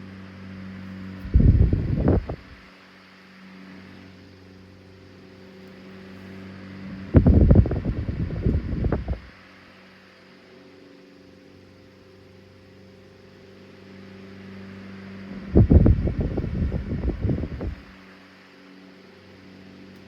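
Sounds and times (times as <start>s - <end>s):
fan air buffeting microphone: 0.0s - 20.0s
table fan motor hum: 0.0s - 20.0s.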